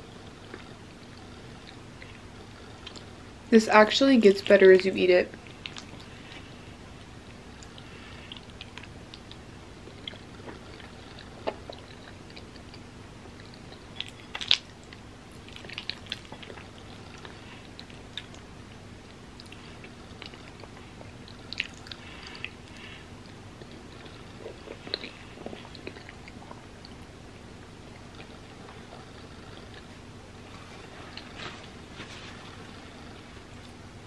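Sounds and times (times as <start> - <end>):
chewing soft food: 0.0 - 3.3, 5.3 - 33.9.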